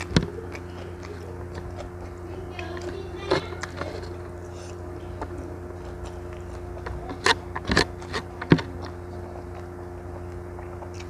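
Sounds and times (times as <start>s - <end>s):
quiet chewing: 0.0s - 11.0s
steady low hum: 0.0s - 11.0s.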